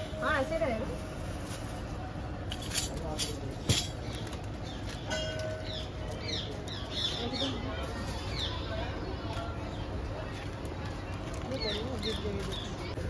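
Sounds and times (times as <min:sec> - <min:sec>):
voices of people: 0:00.0 - 0:13.0.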